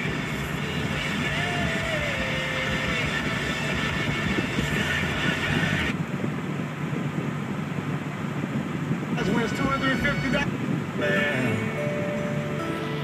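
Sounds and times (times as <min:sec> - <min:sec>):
car engine: 0:00.0 - 0:10.6
exhaust drone: 0:00.0 - 0:13.0
road rumble: 0:00.0 - 0:13.0.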